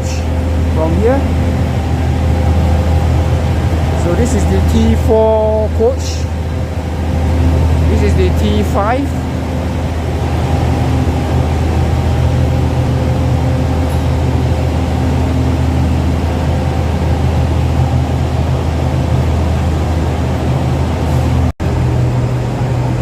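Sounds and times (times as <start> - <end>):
diesel train idling drone: 0.0 - 23.0
humming tones: 0.0 - 23.0.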